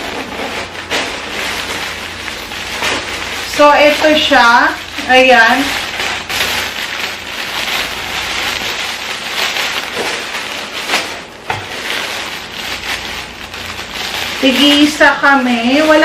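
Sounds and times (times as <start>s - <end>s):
rustling and crinkling packaging: 0.0s - 16.0s.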